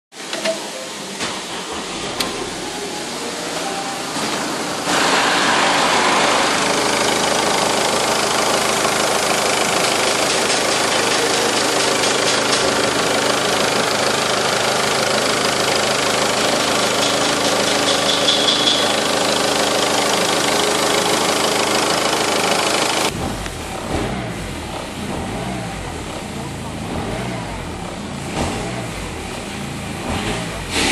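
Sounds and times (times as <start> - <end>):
diesel engine idling: 1.5 - 30.8.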